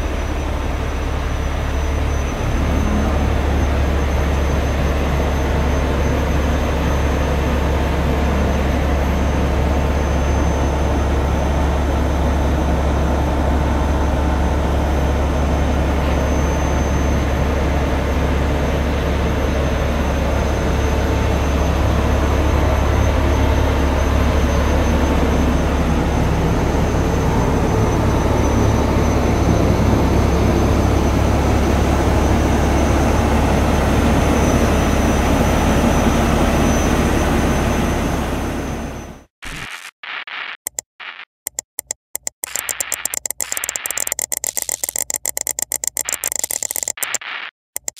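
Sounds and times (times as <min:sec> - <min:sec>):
low engine drone: 0:00.0 - 0:39.3.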